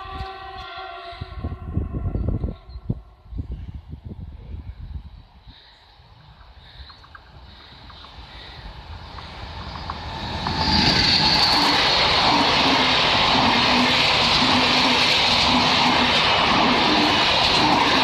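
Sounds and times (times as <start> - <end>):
express train passing: 0.0 - 18.0.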